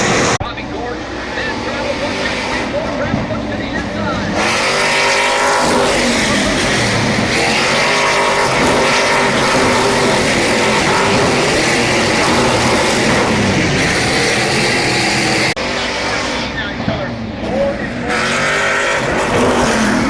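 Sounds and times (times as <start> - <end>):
race truck engines revving by: 0.0 - 20.0.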